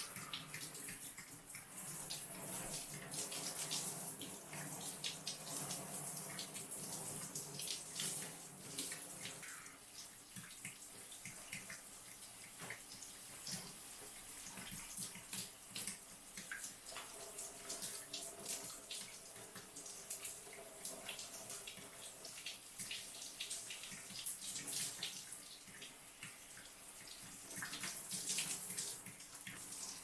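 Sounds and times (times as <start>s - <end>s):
shower spray splashing: 0.0s - 30.0s.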